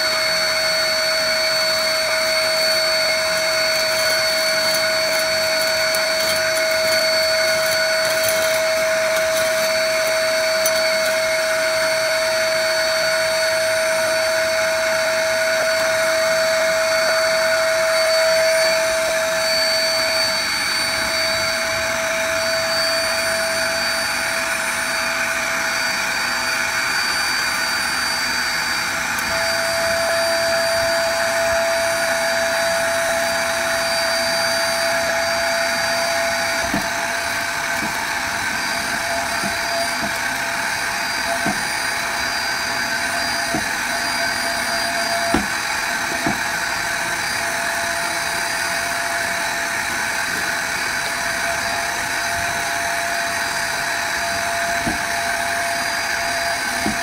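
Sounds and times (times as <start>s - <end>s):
ash vacuum motor whine: 0.0s - 57.0s.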